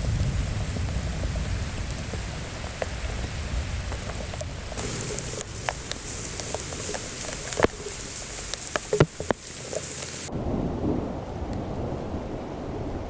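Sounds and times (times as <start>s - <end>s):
raindrops striking close by: 0.0s - 12.6s
rain falling: 0.0s - 13.0s.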